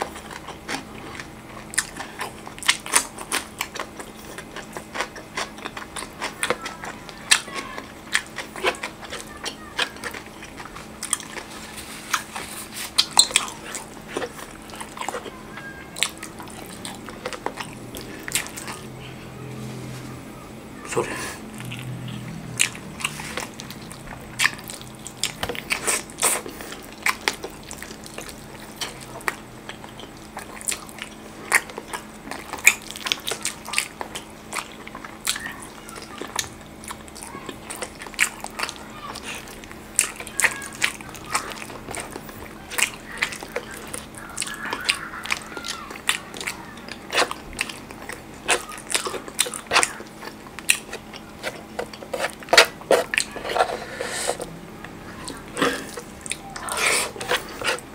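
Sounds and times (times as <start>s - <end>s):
chewing and biting: 0.0s - 19.0s, 20.9s - 57.9s.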